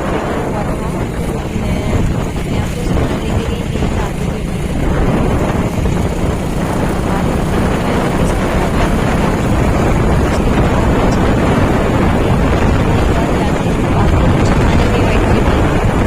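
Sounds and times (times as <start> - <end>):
motorbike engine hum: 0.0 - 16.0
wind rushing over microphone: 0.0 - 16.0.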